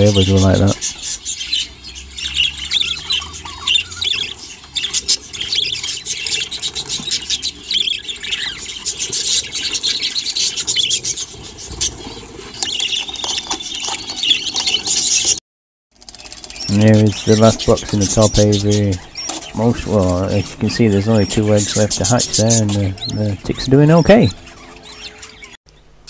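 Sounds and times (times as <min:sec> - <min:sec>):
budgerigars squawking: 0:00.0 - 0:15.4, 0:16.2 - 0:25.6.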